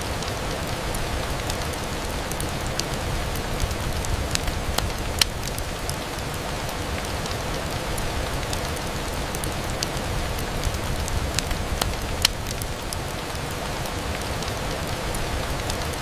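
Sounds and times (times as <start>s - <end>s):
rain on a window: 0.0s - 16.0s
sharp ticks and pops: 0.1s - 16.0s.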